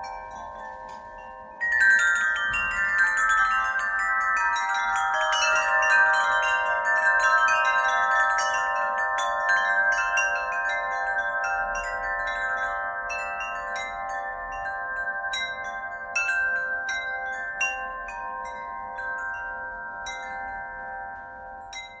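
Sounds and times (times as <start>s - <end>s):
wind chime ringing: 0.0s - 22.0s.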